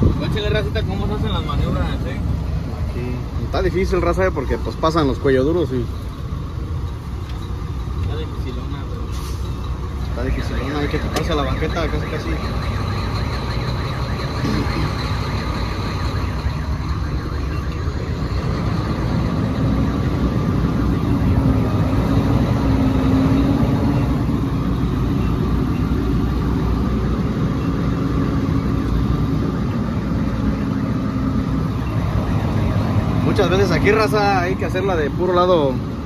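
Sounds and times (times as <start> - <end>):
truck diesel engine droning: 0.0 - 36.0.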